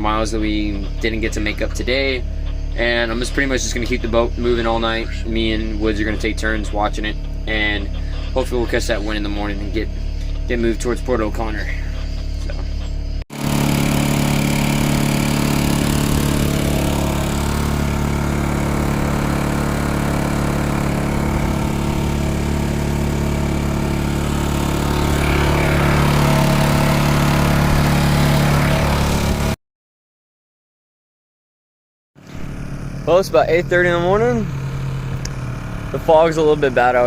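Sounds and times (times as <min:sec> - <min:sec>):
boat motor running: 0:00.0 - 0:29.6, 0:32.2 - 0:37.0.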